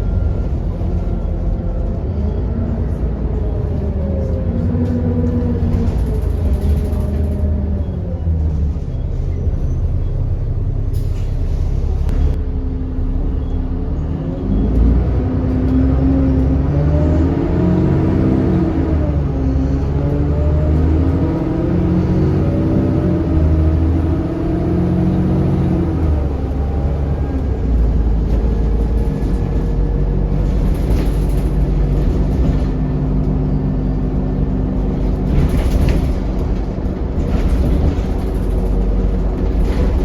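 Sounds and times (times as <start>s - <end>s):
bus engine whining and rumbling: 0.0s - 40.0s.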